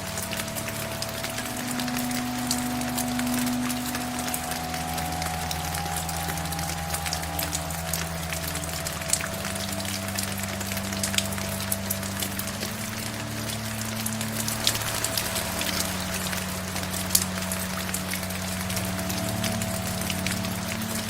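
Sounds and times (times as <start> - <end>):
individual raindrops: 0.0 - 21.0
soft music of low notes: 0.0 - 21.0
steady rain: 0.0 - 21.0.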